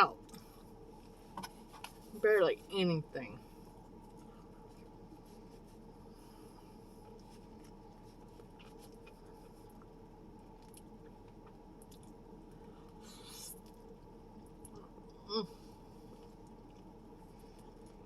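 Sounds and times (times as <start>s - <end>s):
low room hum: 0.0s - 18.0s
quiet chewing: 0.2s - 2.1s, 3.4s - 18.0s.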